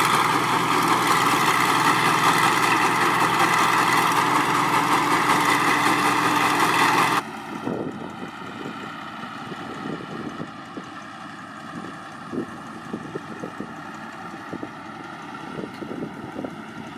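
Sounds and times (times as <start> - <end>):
combine harvester engine running: 0.0 - 16.9.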